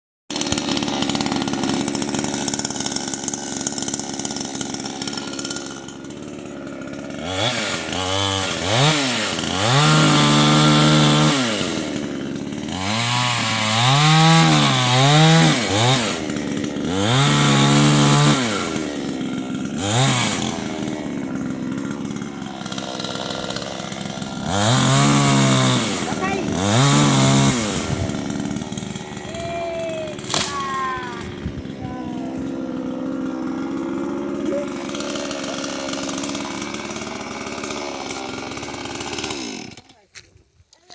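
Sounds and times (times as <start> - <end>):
chainsaw revving: 0.3 - 40.9.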